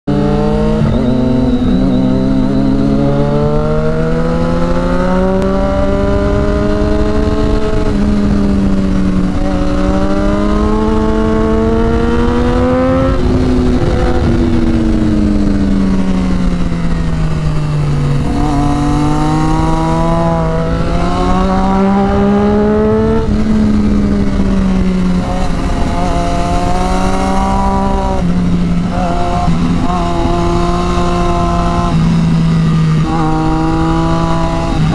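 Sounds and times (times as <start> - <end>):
motorcycle engine revving through gears: 0.1 - 34.9
wind rushing: 0.1 - 34.9.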